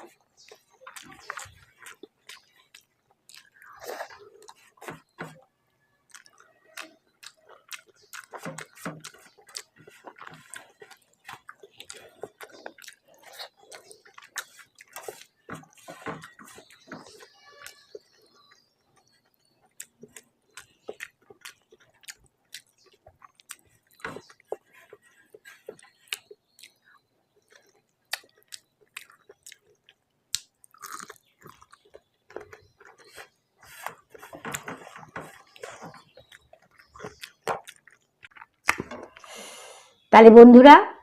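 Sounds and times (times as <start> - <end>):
close chewing and mouth sounds: 0.0 - 40.1.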